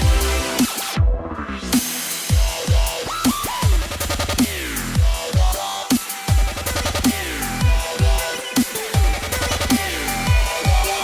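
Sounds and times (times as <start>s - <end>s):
dubstep music: 0.0s - 11.0s.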